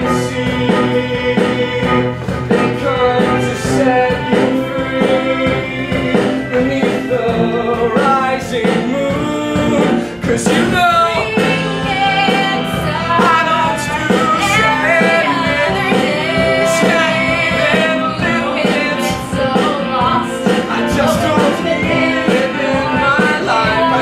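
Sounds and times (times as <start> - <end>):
live band playing: 0.0 - 24.0
voices singing: 0.0 - 24.0.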